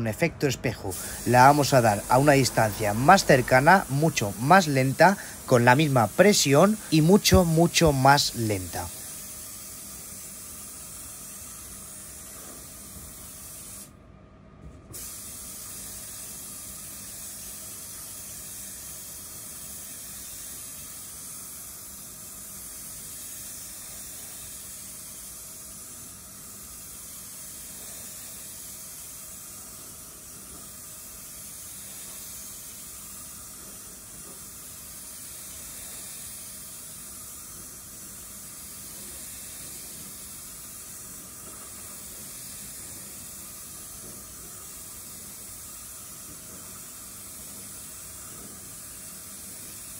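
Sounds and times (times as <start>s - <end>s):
spray gun hissing: 0.0s - 13.9s, 14.9s - 49.9s.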